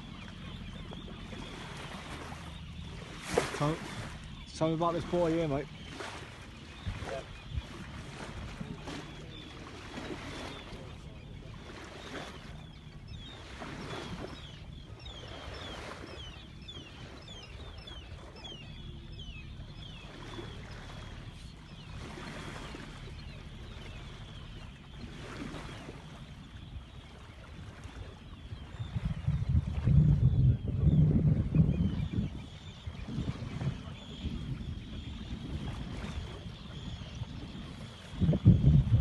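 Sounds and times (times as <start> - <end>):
steady low hum: 0.0 - 39.0
water swishing along hull: 0.0 - 39.0.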